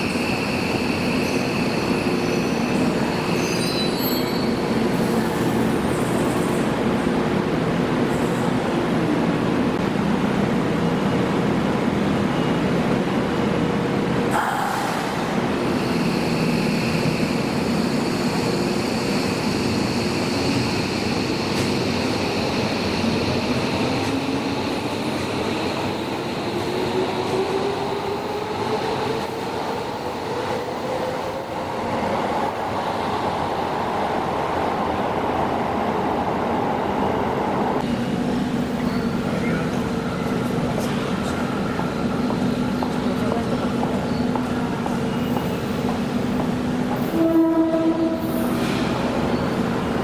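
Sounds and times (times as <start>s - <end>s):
rail and running noise: 0.0s - 50.0s.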